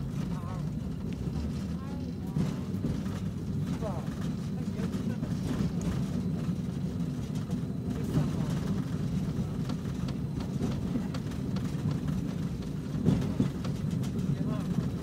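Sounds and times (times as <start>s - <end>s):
tram rumbling: 0.0s - 15.0s.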